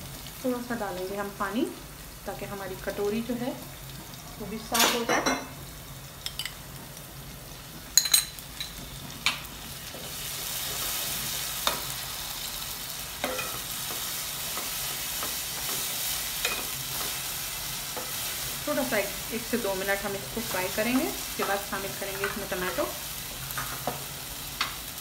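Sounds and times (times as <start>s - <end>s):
sizzling in oil: 0.0s - 25.0s.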